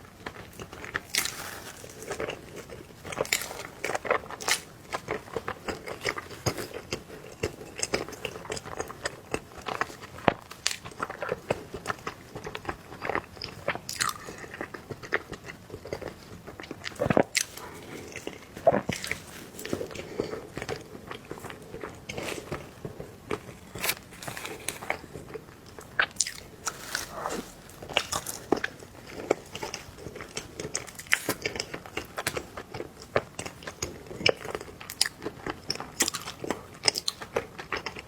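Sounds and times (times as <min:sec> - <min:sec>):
wet chewing and mouth smacks: 0:00.2 - 0:38.0.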